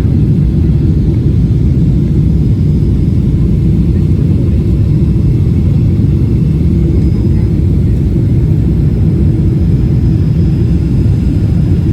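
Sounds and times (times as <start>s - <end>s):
jet airliner cabin rumble: 0.0s - 11.9s.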